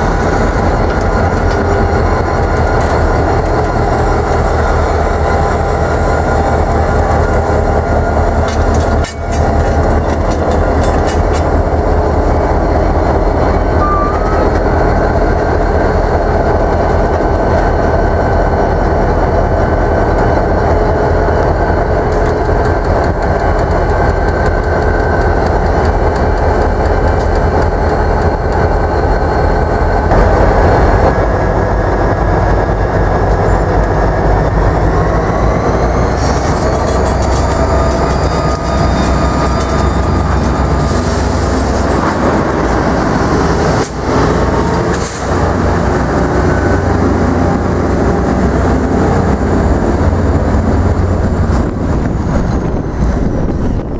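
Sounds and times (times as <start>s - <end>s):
diesel locomotives running: 0.0s - 53.9s
train rolling on rails: 0.0s - 53.9s.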